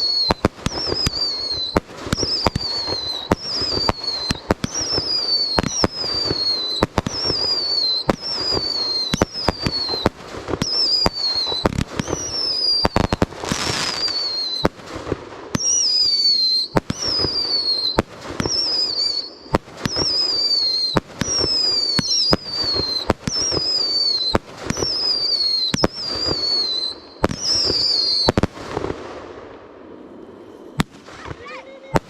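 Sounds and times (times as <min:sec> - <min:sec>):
firework whistles falling in pitch: 0:00.0 - 0:14.8, 0:15.5 - 0:29.0, 0:29.8 - 0:32.0
firework bangs: 0:00.0 - 0:32.0.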